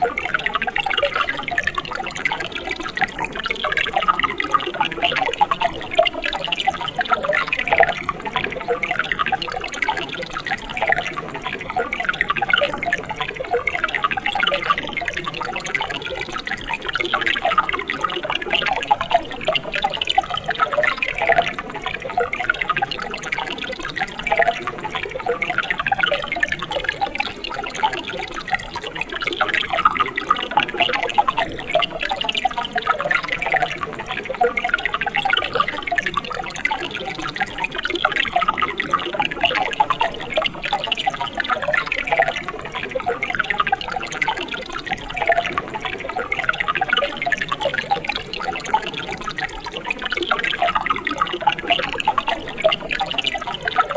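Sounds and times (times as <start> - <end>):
stream water gurgling over rocks: 0.0 - 53.9.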